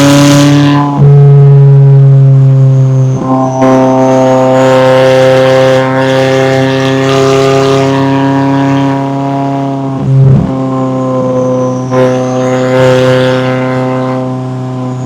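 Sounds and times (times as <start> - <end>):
loud car exhaust: 0.0 - 15.0.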